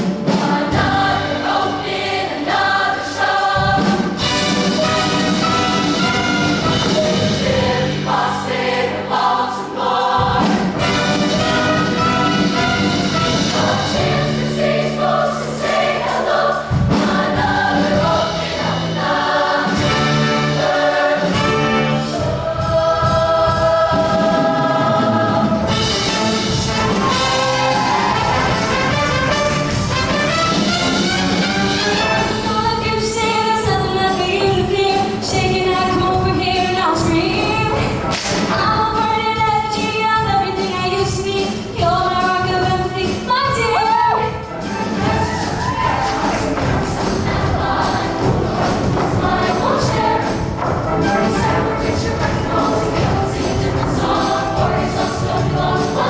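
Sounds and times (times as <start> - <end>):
choir singing in harmony: 0.0 - 39.8, 44.5 - 56.0
live band accompaniment: 0.0 - 56.0.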